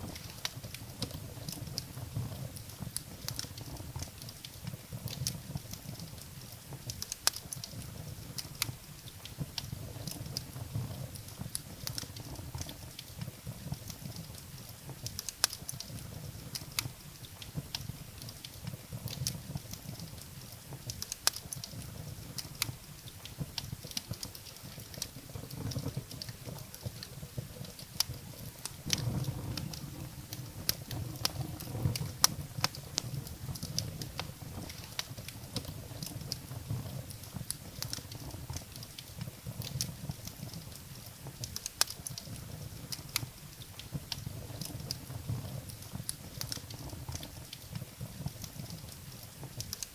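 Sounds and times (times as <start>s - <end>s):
fire flames rumbling: 0.0s - 49.9s
wood crackling and popping: 0.0s - 49.9s.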